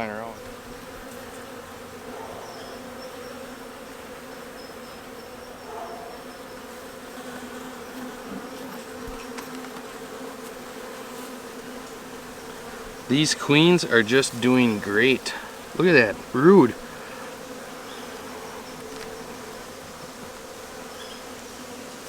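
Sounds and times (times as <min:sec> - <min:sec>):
bees buzzing in a swarm: 0:00.0 - 0:22.0.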